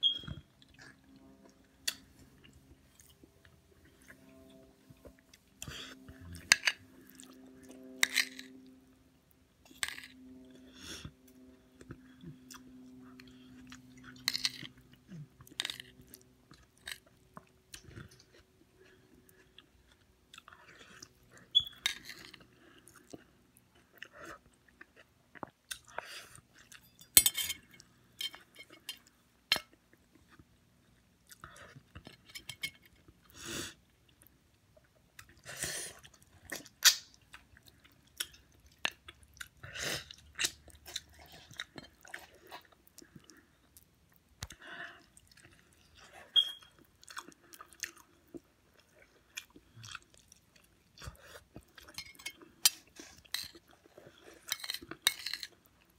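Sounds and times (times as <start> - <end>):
person chewing: 9.6 - 33.3, 34.1 - 55.9.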